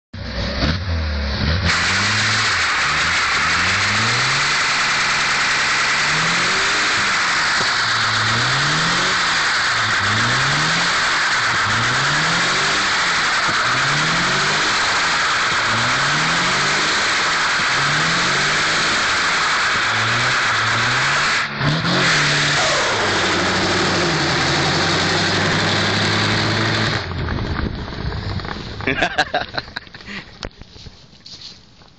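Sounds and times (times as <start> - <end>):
car engine revving: 0.2 - 30.2.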